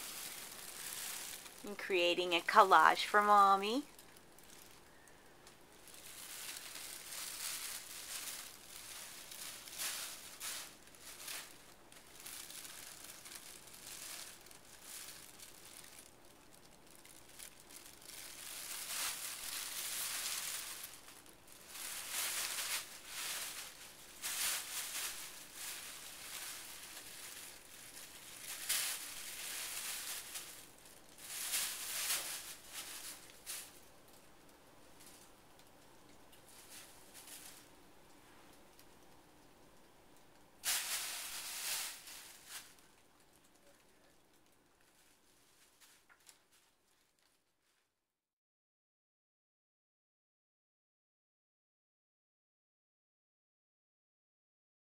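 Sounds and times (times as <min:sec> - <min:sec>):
plastic bags crinkling: 0:00.0 - 0:37.8, 0:40.2 - 0:47.9.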